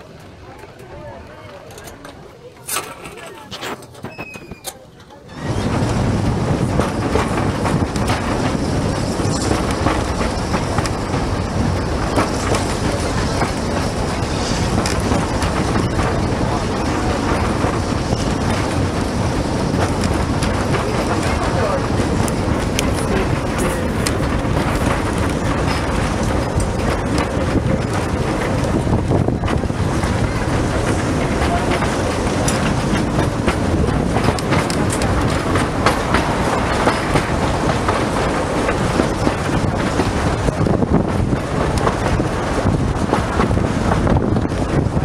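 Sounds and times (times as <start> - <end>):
clacks over rail joints: 0.0 - 45.0
train wheels rumbling: 0.0 - 45.0.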